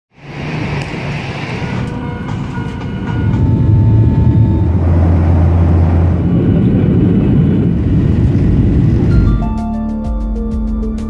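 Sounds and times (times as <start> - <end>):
jet engines rumbling: 0.1 - 9.7.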